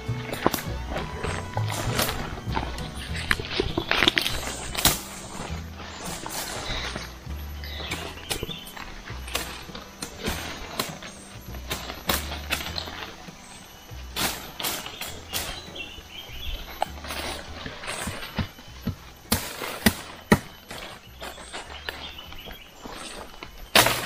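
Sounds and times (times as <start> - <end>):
rustling leaves and branches: 0.0 - 24.0
machete chopping sapling: 0.1 - 16.1, 16.7 - 22.6, 23.7 - 24.0.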